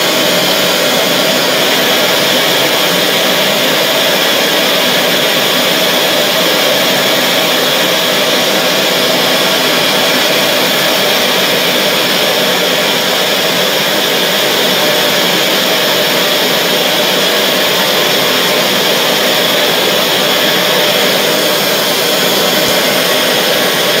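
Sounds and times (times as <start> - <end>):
gas torch burning: 0.0 - 24.0.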